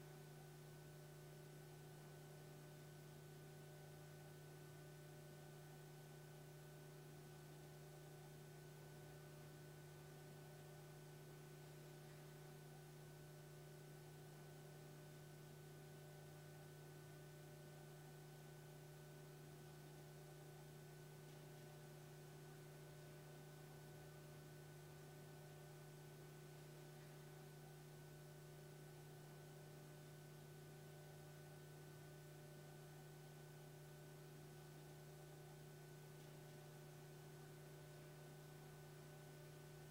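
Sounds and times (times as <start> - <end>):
faint electrical hum with hiss: 0.0 - 39.9.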